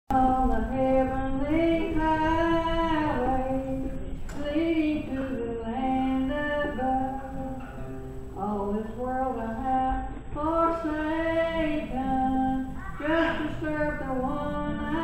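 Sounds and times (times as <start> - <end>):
woman singing gospel song: 0.1 - 15.0.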